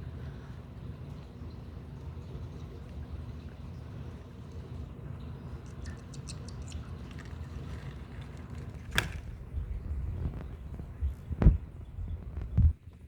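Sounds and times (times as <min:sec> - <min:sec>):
low rumble of handling noise: 0:00.0 - 0:13.0.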